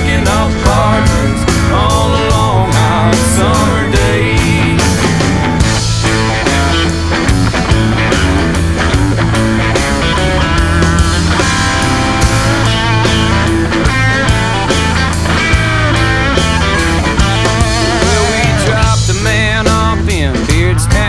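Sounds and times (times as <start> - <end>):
bass and drums: 0.0 - 21.0
lead guitar bending notes: 0.0 - 21.0.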